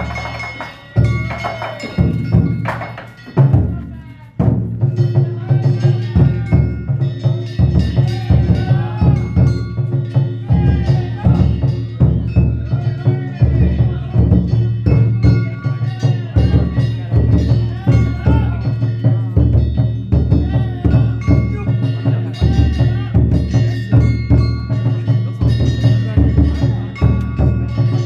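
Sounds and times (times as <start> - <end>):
large drum rhythm: 0.0 - 28.0
small hand gongs ringing: 0.0 - 28.0.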